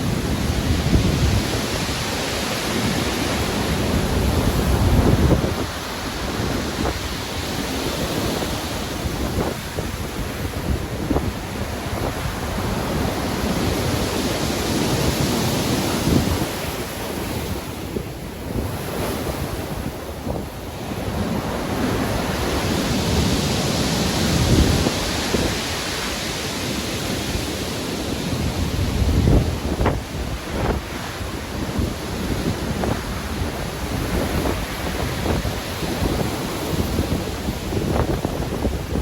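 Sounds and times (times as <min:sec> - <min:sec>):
heavy waves breaking: 0:00.0 - 0:39.0
wind buffeting microphone: 0:00.0 - 0:39.0.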